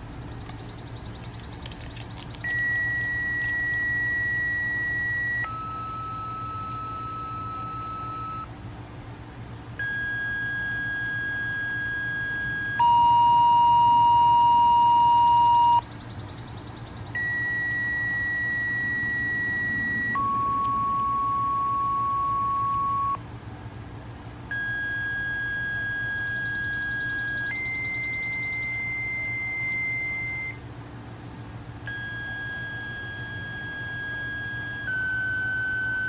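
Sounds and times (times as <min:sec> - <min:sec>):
electronic beep tones: 0:01.7 - 0:08.5, 0:09.8 - 0:15.9, 0:17.2 - 0:23.2, 0:24.5 - 0:30.6, 0:31.9 - 0:36.0.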